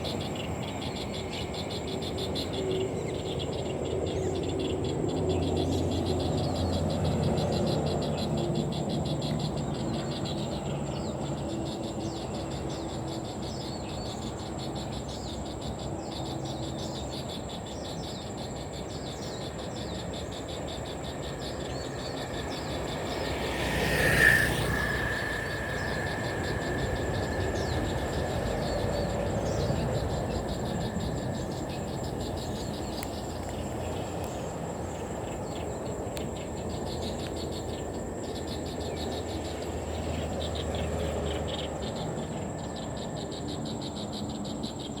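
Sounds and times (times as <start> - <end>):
insects chirping: 0.0 - 45.0.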